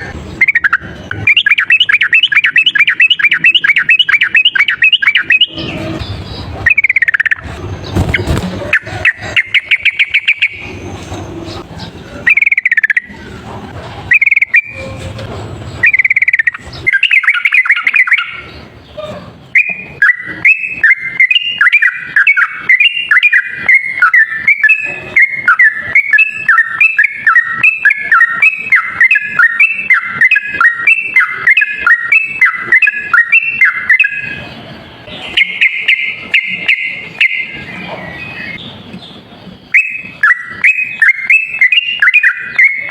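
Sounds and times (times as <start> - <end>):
bulbul singing: 0.0 - 13.4, 14.1 - 15.0, 15.7 - 42.9.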